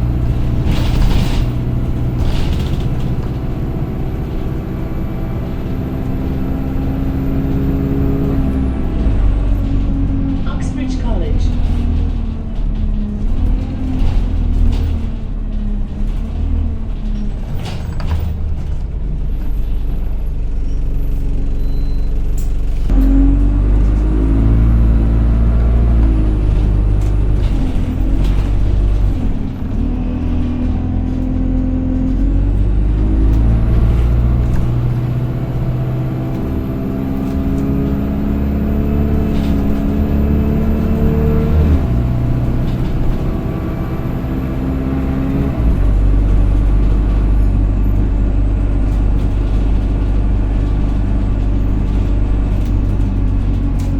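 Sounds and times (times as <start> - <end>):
bus engine whining accelerating: 0.0 - 53.9.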